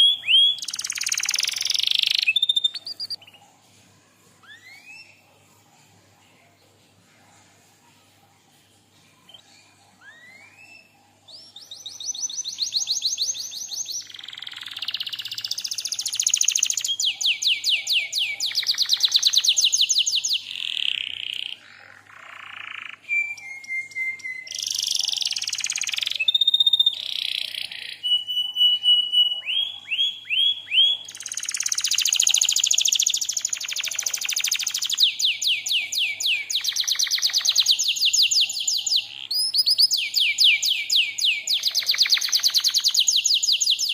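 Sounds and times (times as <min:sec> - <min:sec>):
canary singing: 0:00.0 - 0:03.6, 0:04.4 - 0:05.4, 0:09.2 - 0:43.9.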